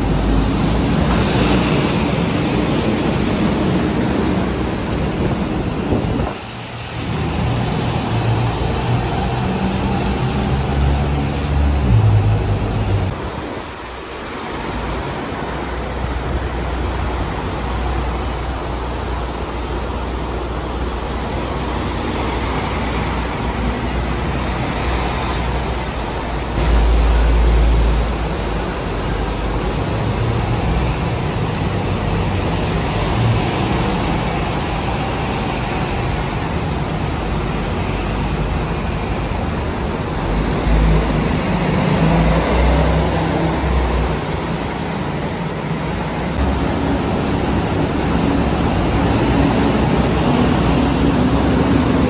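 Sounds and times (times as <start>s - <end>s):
bus engine rumble: 0.0s - 52.0s
road and traffic noise: 0.0s - 52.0s.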